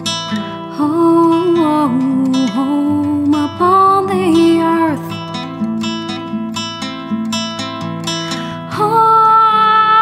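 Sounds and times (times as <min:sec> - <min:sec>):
acoustic guitar music: 0:00.0 - 0:10.0.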